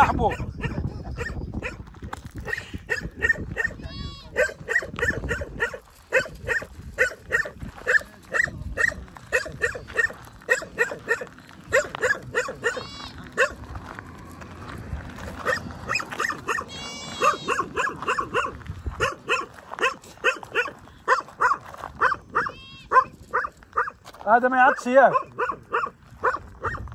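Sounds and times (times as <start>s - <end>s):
dog barking: 0.0s - 1.8s, 2.4s - 13.6s, 15.4s - 24.0s, 24.6s - 26.9s
dog yelping: 0.0s - 1.8s, 2.4s - 13.7s, 15.4s - 24.0s, 24.6s - 26.9s.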